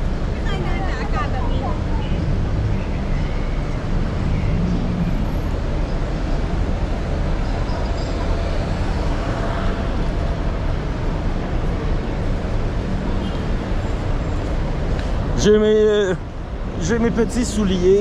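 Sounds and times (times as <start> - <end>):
heavy street traffic rumble: 0.0 - 18.0.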